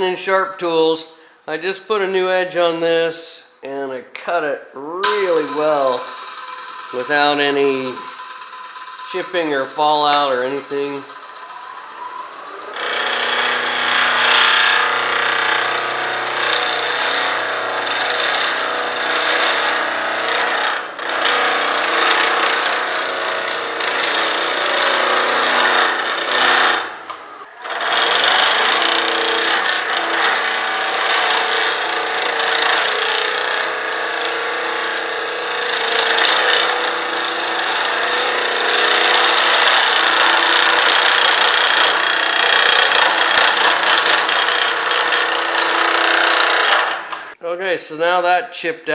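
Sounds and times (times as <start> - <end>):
gouge scraping spinning wood: 5.0 - 47.4
wood lathe motor hum: 5.1 - 47.4.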